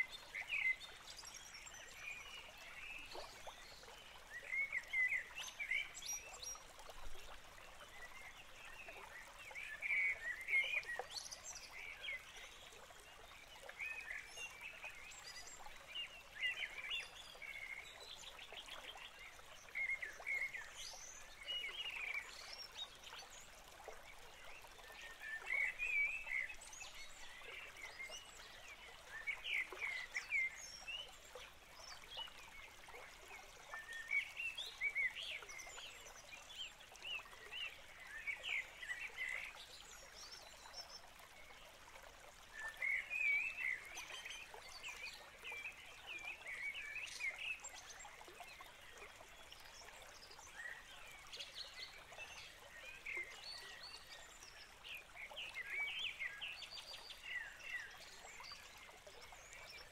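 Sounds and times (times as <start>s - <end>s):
running stream: 0.0s - 59.9s.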